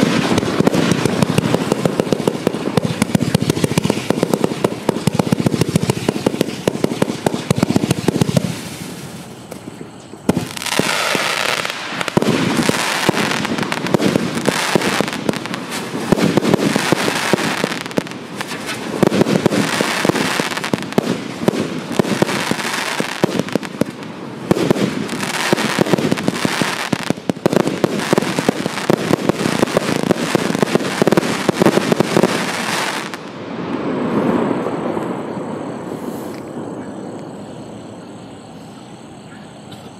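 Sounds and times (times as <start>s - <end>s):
firework cake firing volleys: 0.0s - 9.6s, 10.3s - 33.2s.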